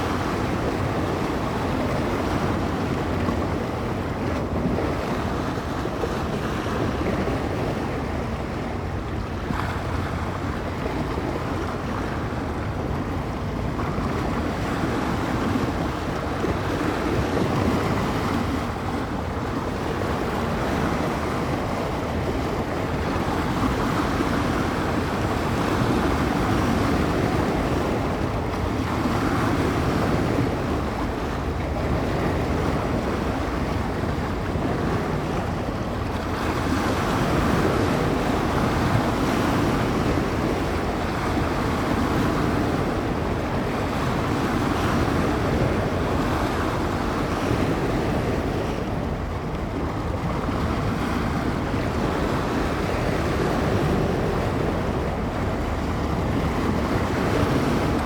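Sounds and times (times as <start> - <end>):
waves washing on shore: 0.0 - 58.0
wind rumbling on microphone: 0.0 - 58.0.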